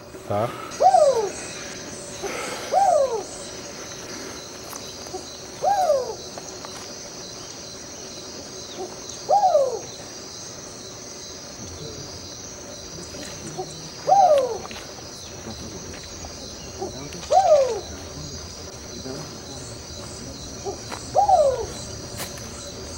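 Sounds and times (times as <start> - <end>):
owl calling: 0.0 - 6.8, 8.6 - 10.9, 11.7 - 22.9
night insects chorus: 0.0 - 22.9.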